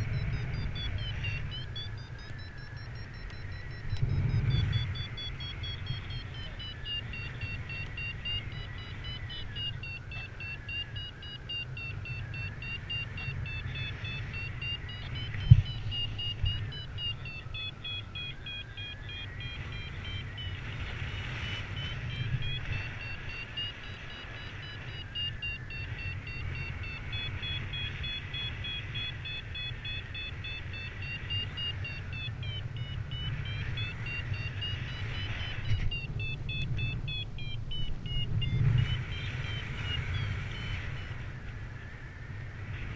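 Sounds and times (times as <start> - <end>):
variometer beeping rapidly: 0.0 - 41.1
wind on microphone: 0.0 - 42.9.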